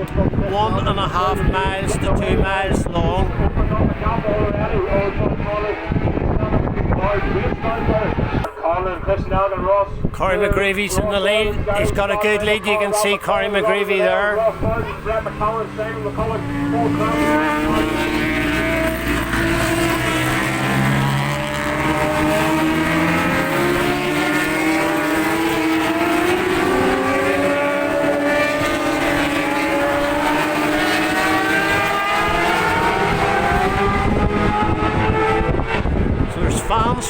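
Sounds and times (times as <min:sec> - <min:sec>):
racing motorcycle engines passing: 0:00.0 - 0:08.5, 0:10.4 - 0:37.0.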